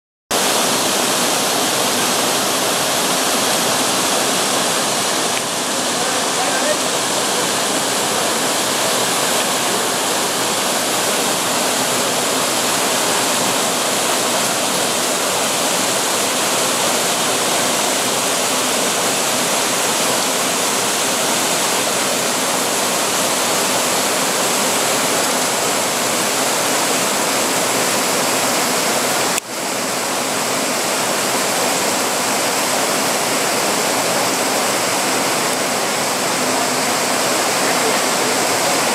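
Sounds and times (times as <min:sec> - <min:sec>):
water cascading over rock: 0:00.3 - 0:38.9.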